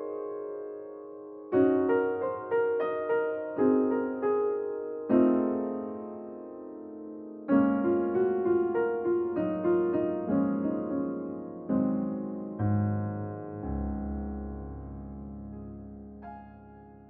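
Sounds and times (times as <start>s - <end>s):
slow solo piano piece: 0.0s - 17.0s.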